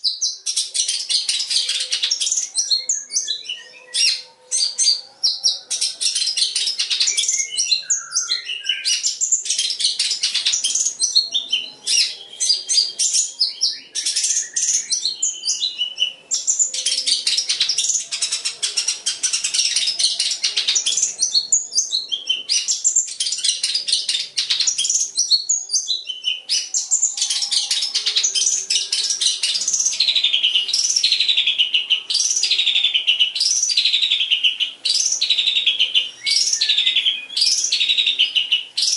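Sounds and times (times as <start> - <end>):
shrike singing chattering song: 0.0 - 38.9.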